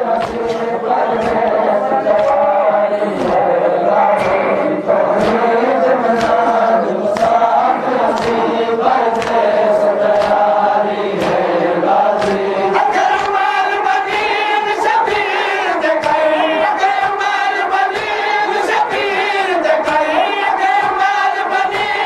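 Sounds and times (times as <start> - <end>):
chest-beating slaps: 0.0 - 22.0
men chanting in unison: 0.0 - 22.0.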